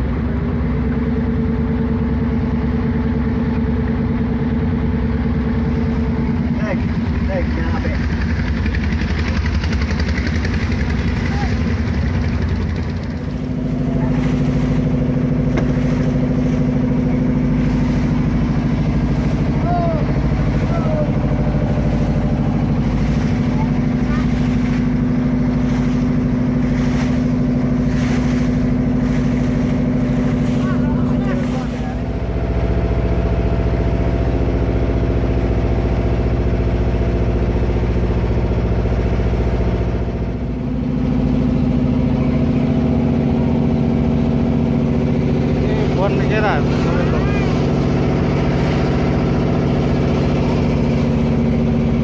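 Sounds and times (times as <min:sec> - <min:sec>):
boat engine chugging: 0:00.0 - 0:52.0.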